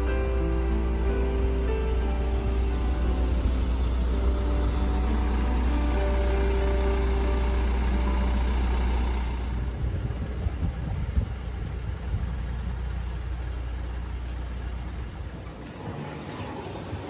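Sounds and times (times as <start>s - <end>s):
diesel engine low drone: 0.0s - 17.0s.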